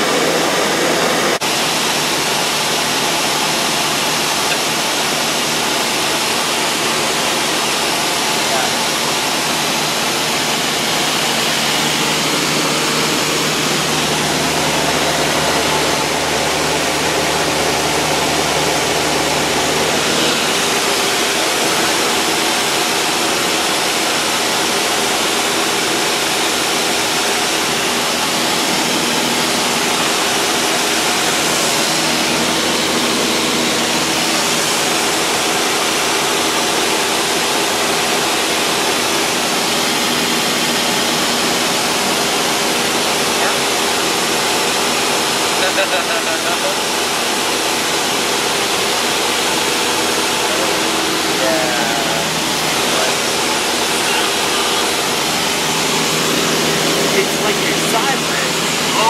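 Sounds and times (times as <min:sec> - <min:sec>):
airplane engine and propeller drone: 0:00.0 - 0:59.0.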